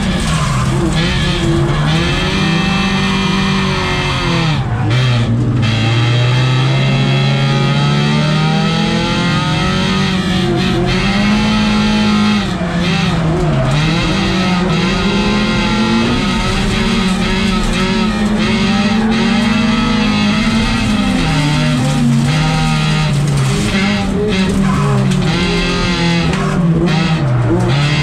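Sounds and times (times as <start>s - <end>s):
car engine revving hard: 0.0s - 28.0s.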